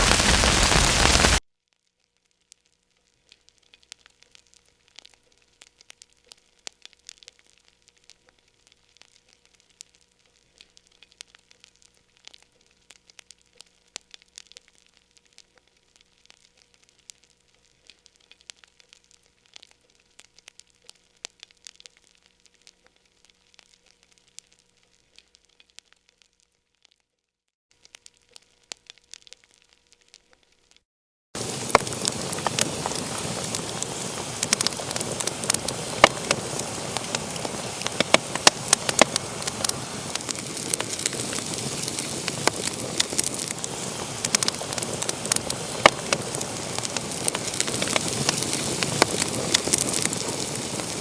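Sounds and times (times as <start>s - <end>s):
faint wood fire crackling: 0.0s - 27.0s, 27.7s - 30.8s, 31.4s - 51.0s.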